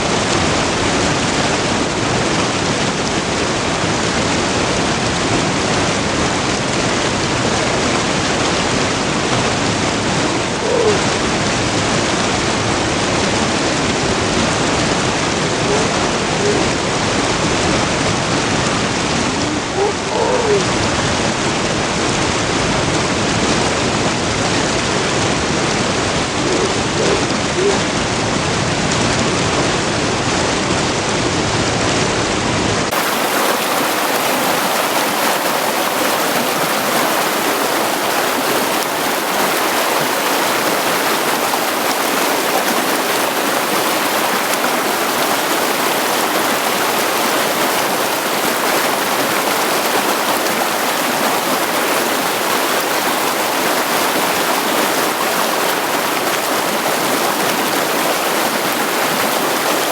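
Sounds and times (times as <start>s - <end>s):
stream rushing over rocks: 0.0s - 29.7s, 32.9s - 59.9s.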